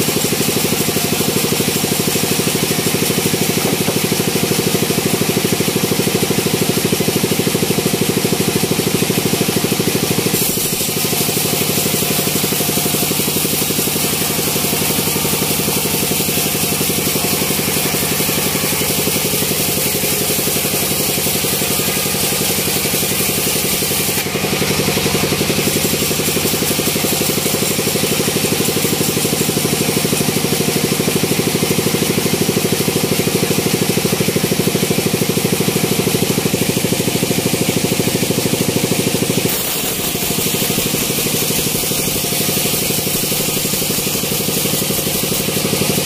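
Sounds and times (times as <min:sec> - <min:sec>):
band sawmill droning: 0:00.0 - 0:46.0.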